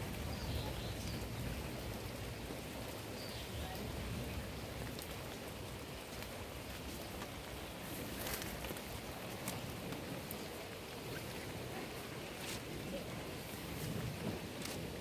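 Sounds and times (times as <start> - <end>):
rain falling on leaves: 0.0 - 15.0.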